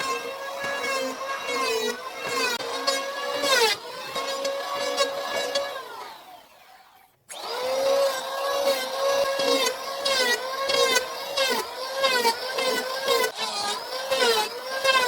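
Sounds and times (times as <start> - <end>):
electric power tool whining: 0.0 - 15.0.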